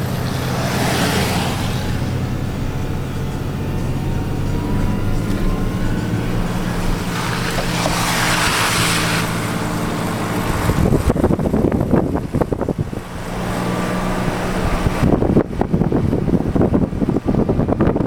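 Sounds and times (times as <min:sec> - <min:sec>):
vehicle engine running: 0:00.0 - 0:18.0
wind buffeting microphone: 0:00.0 - 0:18.0.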